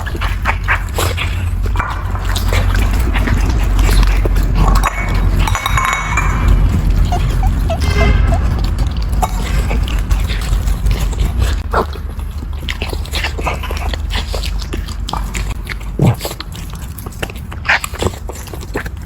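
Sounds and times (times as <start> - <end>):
puppies chewing: 0.0 - 19.0
steady low hum: 0.0 - 19.0.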